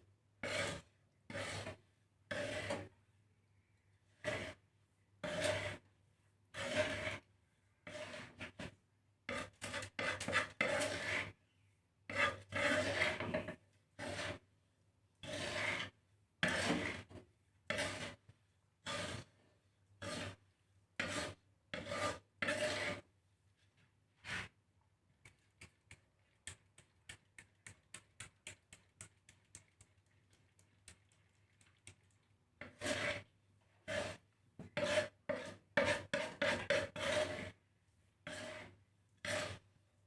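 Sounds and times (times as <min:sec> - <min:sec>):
spatula scraping grains in a pan: 0:00.4 - 0:03.0, 0:04.0 - 0:24.6, 0:25.2 - 0:40.0.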